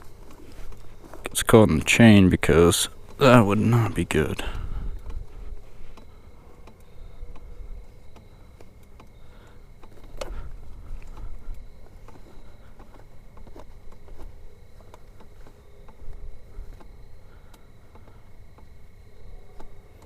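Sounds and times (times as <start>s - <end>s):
handling clicks and rustles: 0.0s - 20.0s.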